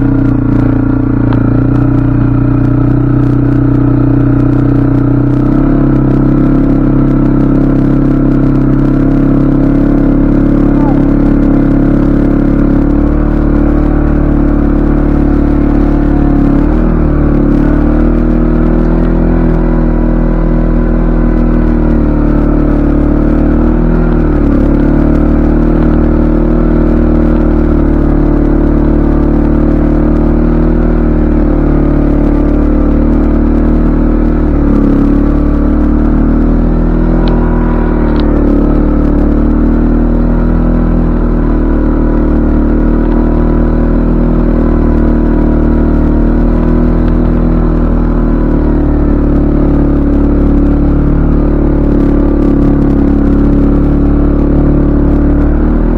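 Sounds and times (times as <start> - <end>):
atv engine running: 0.0 - 55.9.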